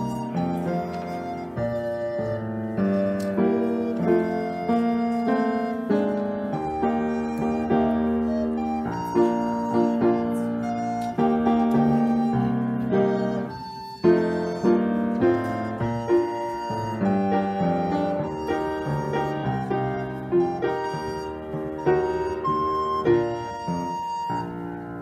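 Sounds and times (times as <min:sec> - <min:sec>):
piano chords: 0:00.0 - 0:25.0
recorder melody: 0:00.0 - 0:25.0.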